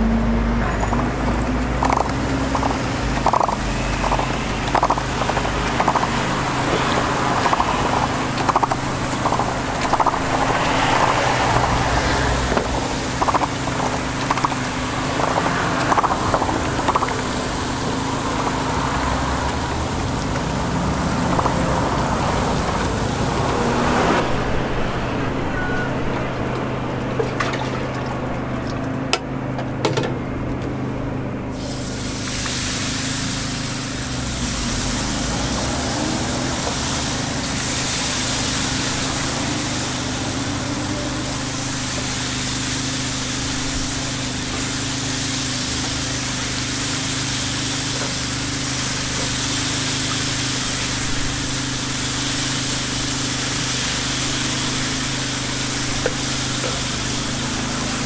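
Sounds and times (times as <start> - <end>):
batter sizzling on griddle: 1.9 - 23.8, 31.5 - 58.0.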